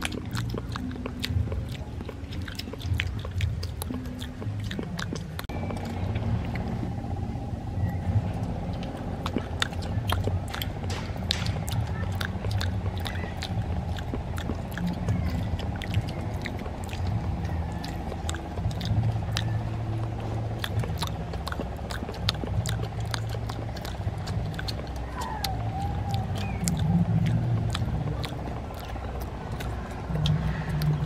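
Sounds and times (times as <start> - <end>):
children chewing: 0.0 - 31.0
steady low hum: 0.0 - 31.0
wet mouth clicks: 0.0 - 31.0.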